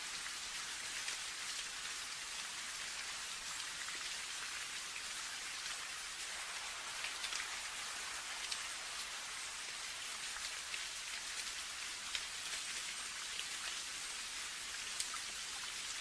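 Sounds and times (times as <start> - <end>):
raindrops ticking on a surface: 0.0 - 16.0
steady rain hiss: 0.0 - 16.0.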